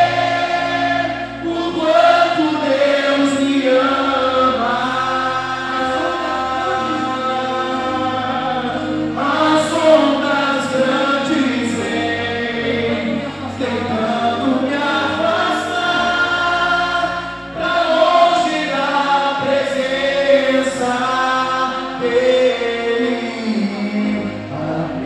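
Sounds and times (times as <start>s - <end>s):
choir singing gospel song: 0.0s - 25.0s
musical accompaniment: 0.0s - 25.0s.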